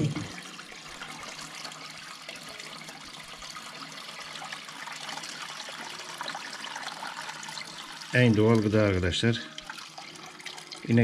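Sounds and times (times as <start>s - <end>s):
milk pouring into metal pan: 0.0s - 11.0s
milk splashing and trickling: 0.0s - 11.0s.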